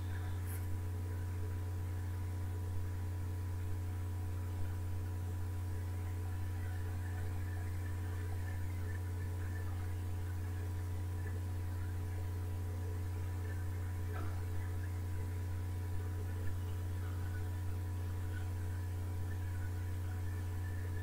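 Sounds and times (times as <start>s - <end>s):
faint steady tones: 0.0s - 21.0s
low electrical hum: 0.0s - 21.0s.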